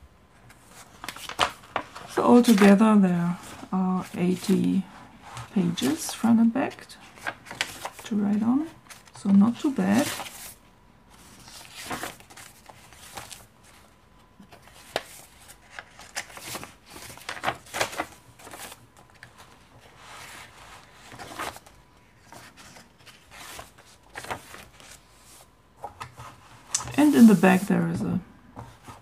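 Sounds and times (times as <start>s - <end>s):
paper pages turning: 0.4s - 2.8s, 3.4s - 28.0s.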